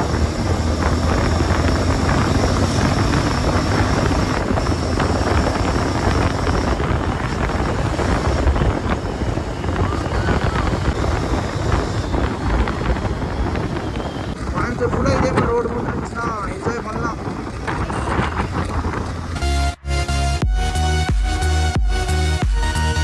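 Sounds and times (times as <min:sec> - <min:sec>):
wind buffeting microphone: 0:00.0 - 0:19.8
motorcycle engine: 0:00.0 - 0:23.0
road noise: 0:00.0 - 0:23.0.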